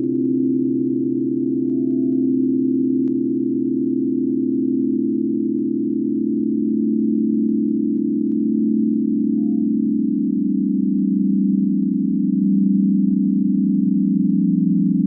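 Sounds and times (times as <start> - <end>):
synthesized sine tone drone: 0.0 - 15.0.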